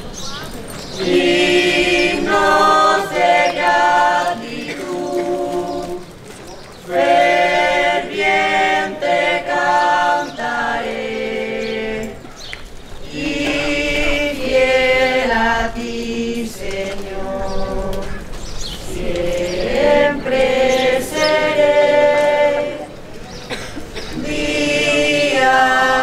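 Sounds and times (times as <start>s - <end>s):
choir singing a hymn: 1.0s - 6.2s, 6.8s - 12.3s, 13.0s - 26.0s.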